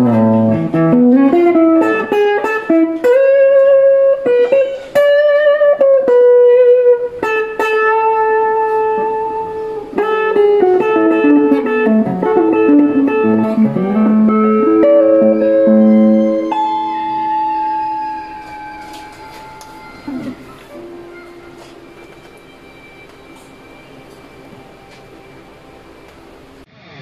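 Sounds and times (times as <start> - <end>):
distorted electric guitar melody: 0.0 - 26.7.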